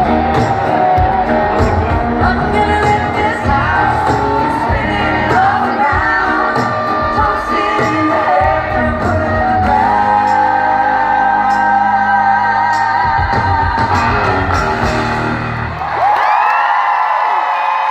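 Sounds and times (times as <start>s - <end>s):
country band playing: 0.0s - 15.8s.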